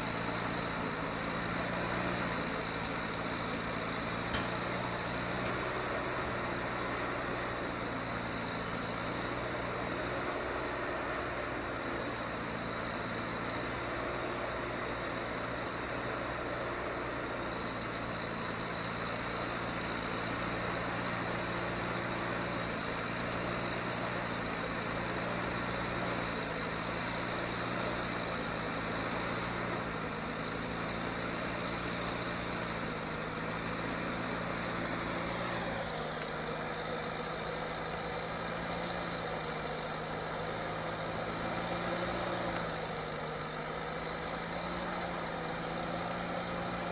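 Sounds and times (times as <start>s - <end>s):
heavy vehicle engine running: 0.0s - 46.9s.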